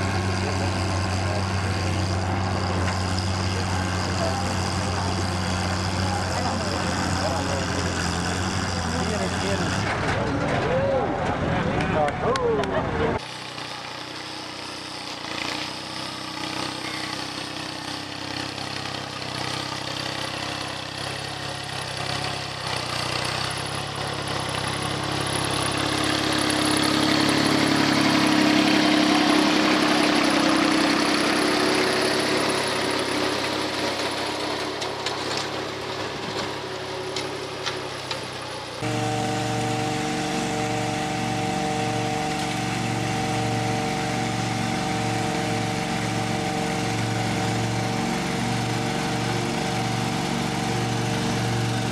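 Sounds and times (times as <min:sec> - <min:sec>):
lawn mower engine hum: 0:00.0 - 0:10.5, 0:12.7 - 0:51.9
tractor engine running: 0:00.0 - 0:51.9.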